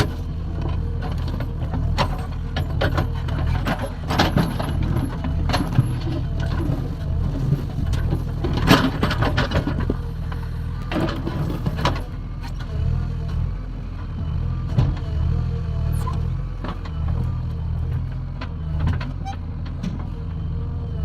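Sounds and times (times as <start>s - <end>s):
digging knocks and clanks: 0.0s - 12.7s, 16.2s - 20.4s
diesel engine running: 0.0s - 21.0s.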